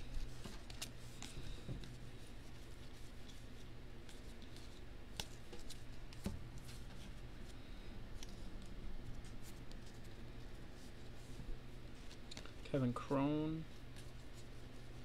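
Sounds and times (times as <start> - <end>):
cards sliding and ticking: 0.0 - 7.6, 8.2 - 11.4, 12.0 - 12.6, 13.8 - 15.0
low steady hum: 0.0 - 15.0.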